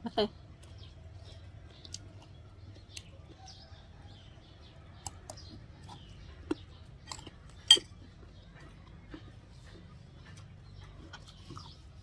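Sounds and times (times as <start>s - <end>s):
chewing: 0.4s - 12.0s.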